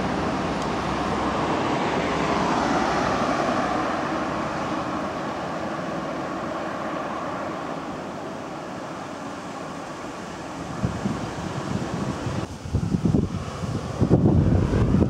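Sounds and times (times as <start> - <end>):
car driving away: 0.0 - 12.5
street traffic: 0.0 - 15.0.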